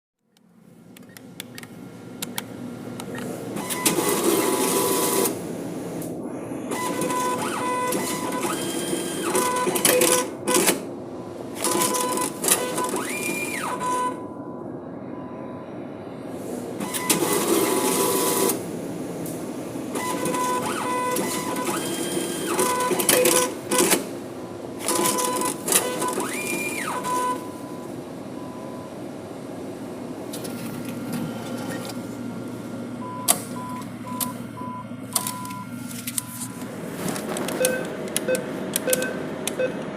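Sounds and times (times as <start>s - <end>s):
cash machine whirring and clattering: 0.9s - 14.2s, 16.7s - 27.8s, 29.8s - 39.9s.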